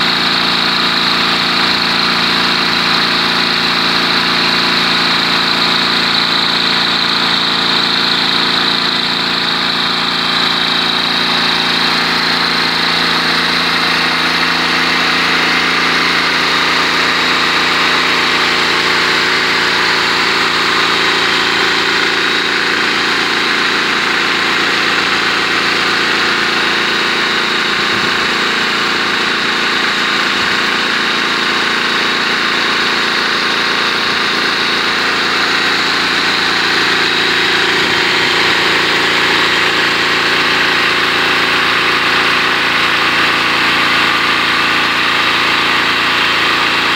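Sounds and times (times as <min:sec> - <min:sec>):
single-cylinder engine running: 0:00.0 - 0:46.9.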